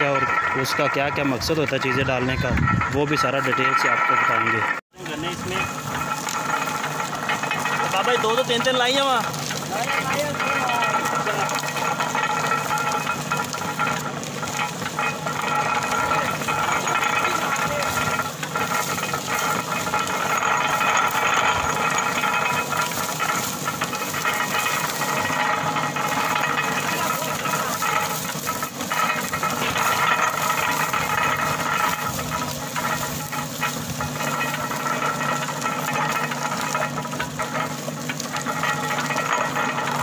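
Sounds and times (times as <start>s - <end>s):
cane crusher machine running: 0.0s - 40.0s
cane stalks being crushed: 5.0s - 40.0s.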